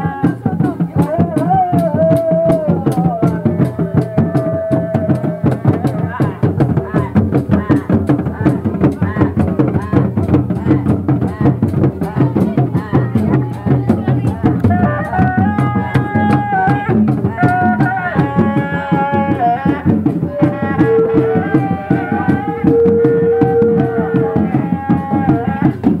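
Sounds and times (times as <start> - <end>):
fast dense drumming: 0.0 - 26.0.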